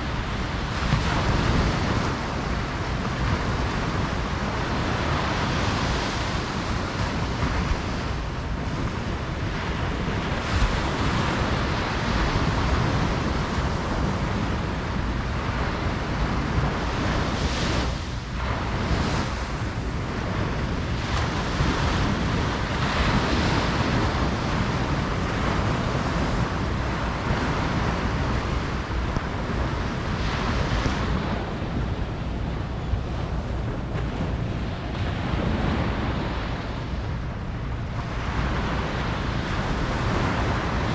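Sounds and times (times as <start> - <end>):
ocean waves breaking on beach: 0.0 - 40.9
wind buffeting microphone: 0.0 - 40.9.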